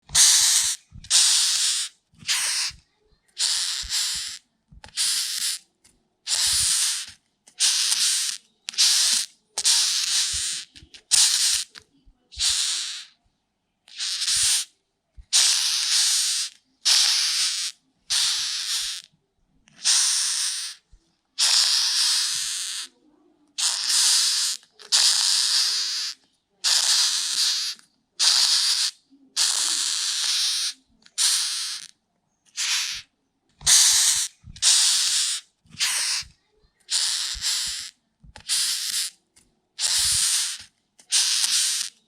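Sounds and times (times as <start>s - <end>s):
beetle hissing: 0.1s - 2.8s, 3.4s - 5.6s, 6.3s - 11.8s, 12.4s - 13.2s, 13.9s - 14.7s, 15.3s - 19.1s, 19.8s - 20.8s, 21.4s - 22.9s, 23.6s - 31.9s, 32.5s - 36.3s, 36.9s - 39.2s, 39.8s - 42.0s.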